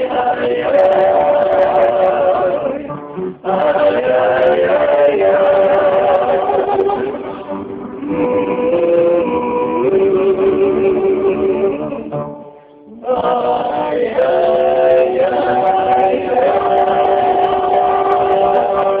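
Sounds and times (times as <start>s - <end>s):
men singing in harmony: 0.0s - 12.2s, 12.9s - 19.0s.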